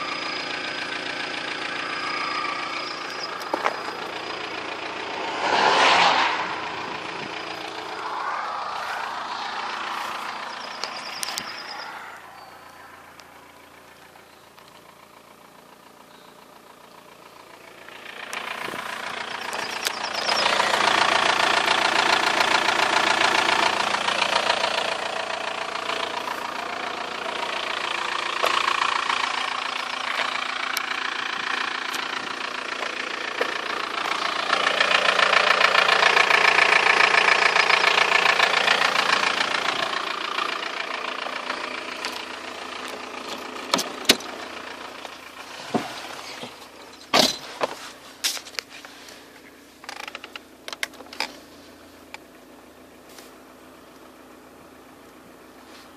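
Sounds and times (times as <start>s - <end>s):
diesel car engine running: 0.0s - 55.9s.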